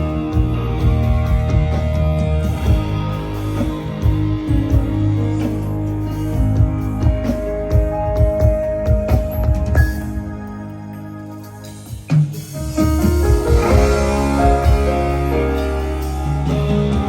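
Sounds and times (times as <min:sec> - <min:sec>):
bass guitar: 0:00.0 - 0:17.0
sustained guitar notes: 0:00.0 - 0:17.0.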